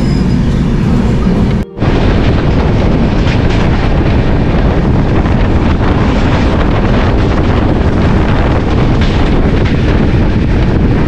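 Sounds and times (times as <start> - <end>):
train rumbling on the track: 0.0 - 11.0
wind buffeting a microphone: 0.0 - 11.0.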